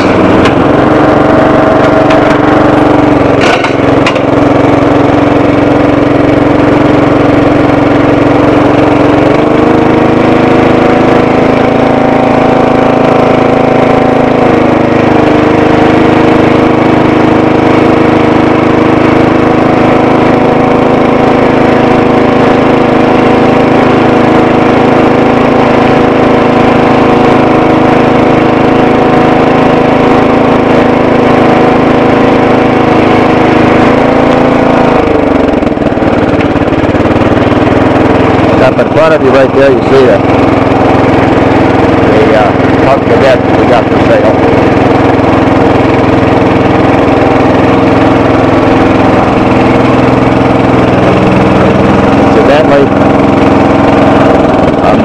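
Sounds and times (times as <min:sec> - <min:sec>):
lawn tractor engine running: 0:00.0 - 0:55.0.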